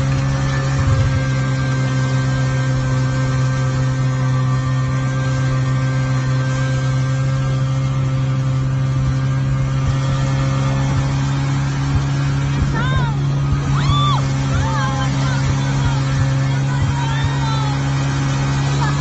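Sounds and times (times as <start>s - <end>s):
snowmobile engine droning: 0.0s - 19.0s.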